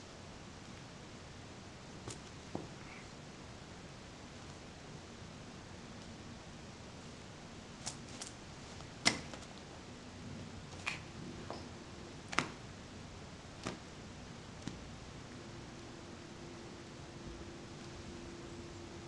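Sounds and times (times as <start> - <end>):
faint room hiss: 0.0 - 19.0.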